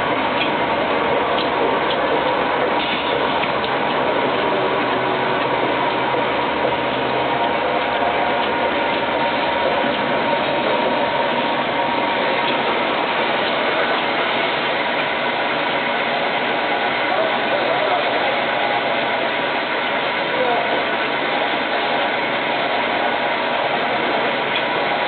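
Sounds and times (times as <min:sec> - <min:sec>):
washing machine whirring clatter: 0:00.0 - 0:25.0.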